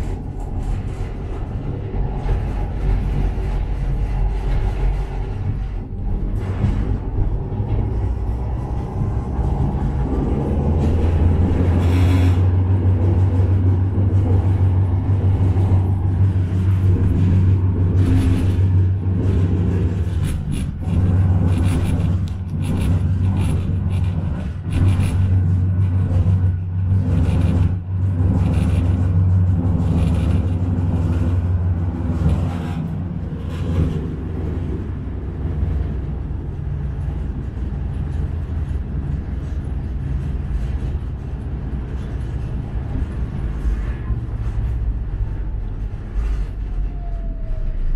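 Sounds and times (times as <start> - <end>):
tram interior rumble: 0.0 - 47.9.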